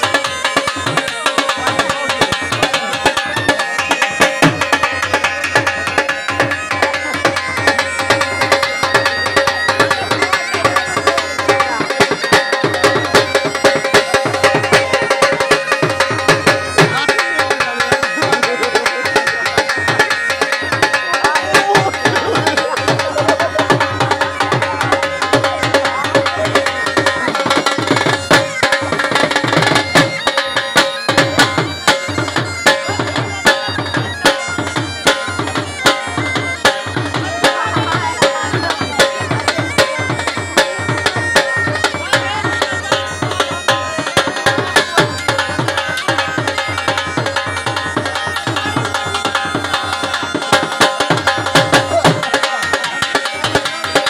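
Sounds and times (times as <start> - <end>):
dhol drum beats: 0.0 - 54.0.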